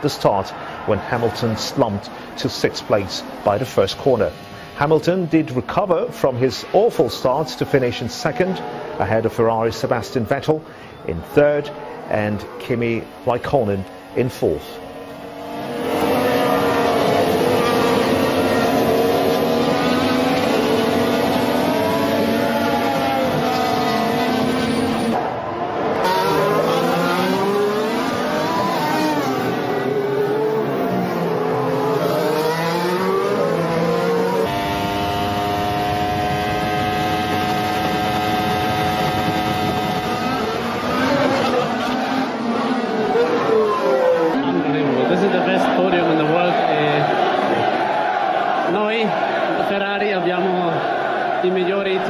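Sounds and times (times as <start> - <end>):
racing car engine: 0.0 - 52.0.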